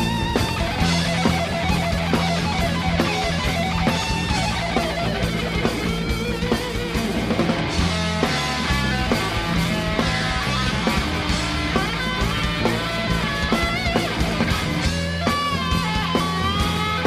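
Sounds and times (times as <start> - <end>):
bass line: 0.0 - 17.0
electric guitar: 0.0 - 17.0.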